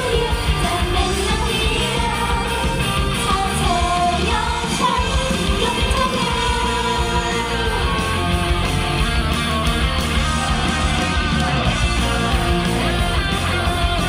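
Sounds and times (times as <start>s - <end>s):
backing music with steady beat: 0.0s - 14.0s
group singing pop song: 0.0s - 14.0s.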